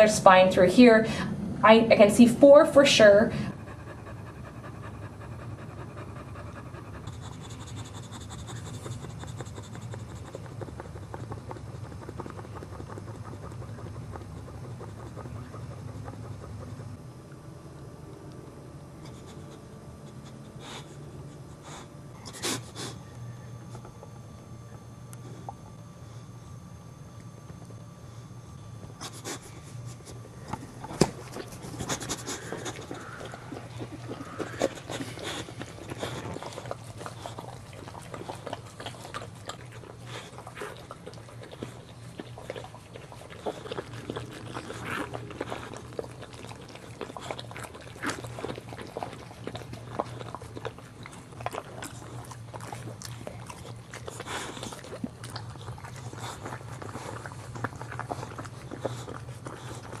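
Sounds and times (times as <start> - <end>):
low hum: 0.0 - 60.0.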